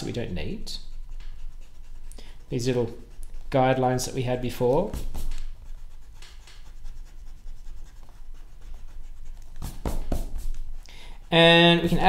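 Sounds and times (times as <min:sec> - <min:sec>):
eraser rubbing on paper: 0:00.0 - 0:12.0.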